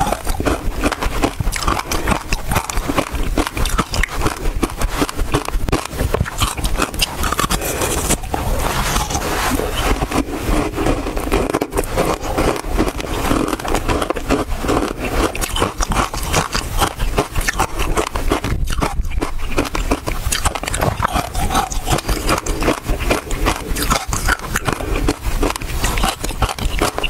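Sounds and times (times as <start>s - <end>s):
ice being crunched and chewed: 0.0s - 27.0s.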